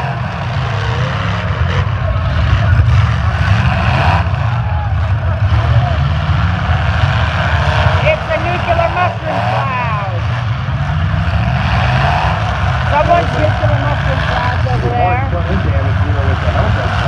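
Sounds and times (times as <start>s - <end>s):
car engines running loudly: 0.0s - 17.0s.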